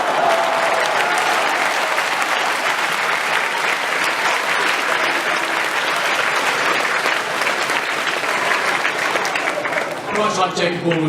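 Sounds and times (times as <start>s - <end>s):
audience clapping: 0.0s - 11.0s.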